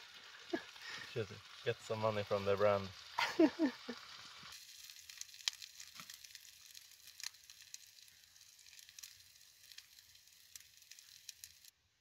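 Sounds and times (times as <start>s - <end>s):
sausages sizzling in a pan: 0.0s - 11.8s.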